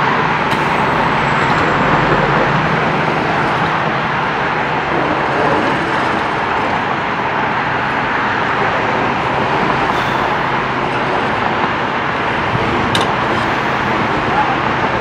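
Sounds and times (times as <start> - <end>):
truck engine running steadily: 0.0 - 15.0.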